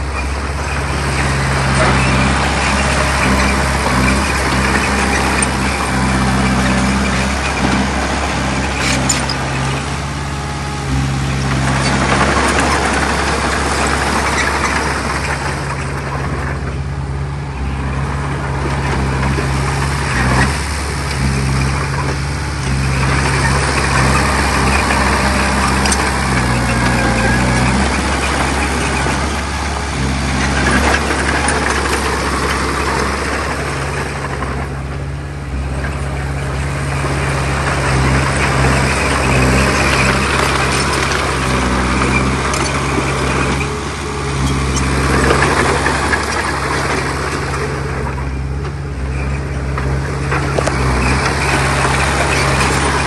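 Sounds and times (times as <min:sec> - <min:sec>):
diesel engine running: 0:00.0 - 0:53.0
rough steady noise: 0:00.0 - 0:53.0.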